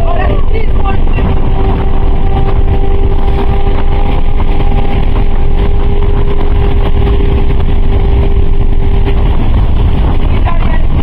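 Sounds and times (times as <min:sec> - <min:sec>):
car engine drone: 0:00.0 - 0:11.0
road and wind noise: 0:00.0 - 0:11.0.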